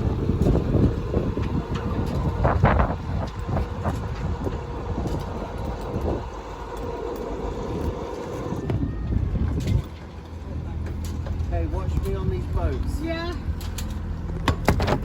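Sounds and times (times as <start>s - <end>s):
boat motor running: 0.0s - 15.0s
wind buffeting microphone: 0.0s - 15.0s.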